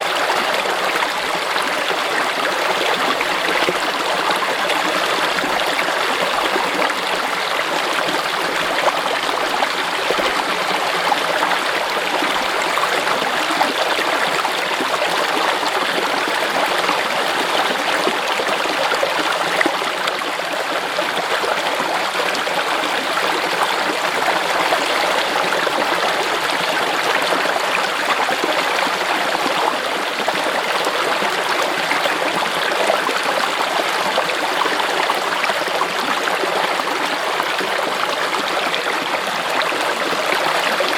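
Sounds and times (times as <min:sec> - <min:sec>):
stream running over rocks: 0:00.0 - 0:40.9.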